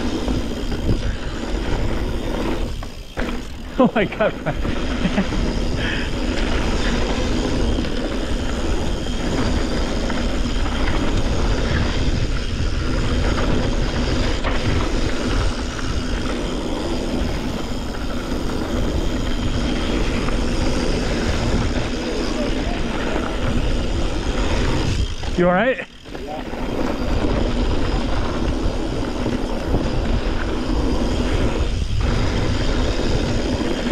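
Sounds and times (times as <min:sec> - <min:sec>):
bike rattling: 0:00.0 - 0:33.9
tyres rumbling over dirt and rock: 0:00.0 - 0:33.9
wind noise on microphone: 0:00.0 - 0:33.9.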